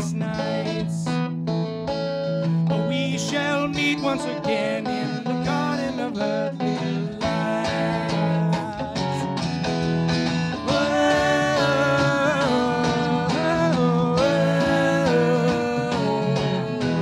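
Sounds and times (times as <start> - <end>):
man singing: 0.0 - 1.2, 2.7 - 9.5, 10.5 - 17.0
strummed acoustic guitar: 0.0 - 17.0.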